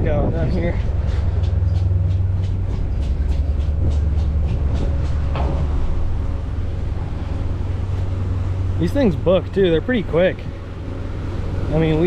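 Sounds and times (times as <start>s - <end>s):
ship engine deep rumble: 0.0s - 12.0s.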